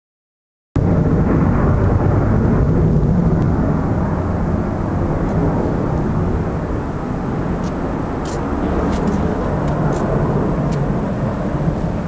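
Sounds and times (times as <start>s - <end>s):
distant jet engines rumbling: 0.8s - 12.0s.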